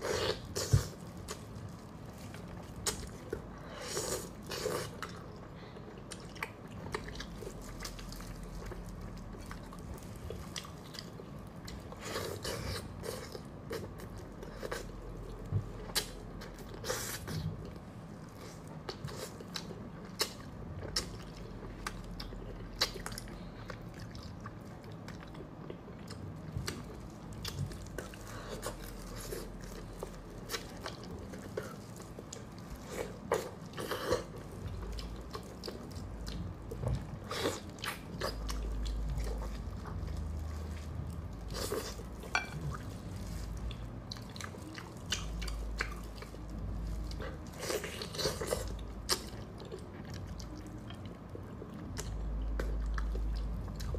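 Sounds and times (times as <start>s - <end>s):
chewing and biting meat: 0.0s - 53.9s.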